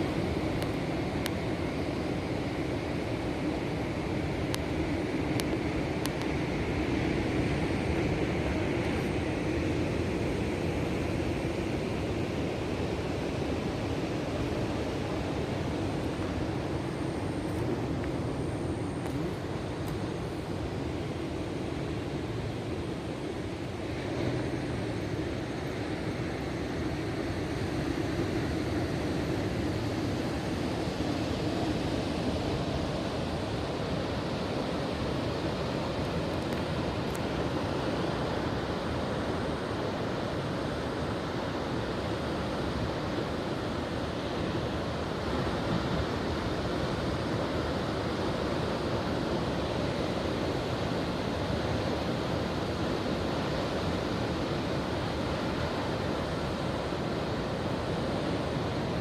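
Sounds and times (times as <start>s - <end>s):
ocean surf: 0.0s - 59.0s.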